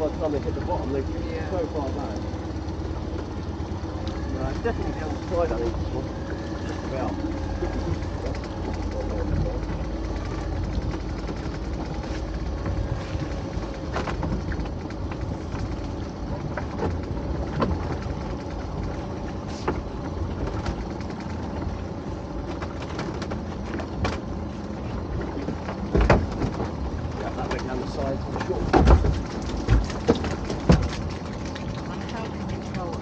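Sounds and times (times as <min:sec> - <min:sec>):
boat motor running: 0:00.0 - 0:33.0
gear knocks and clicks: 0:05.4 - 0:33.0.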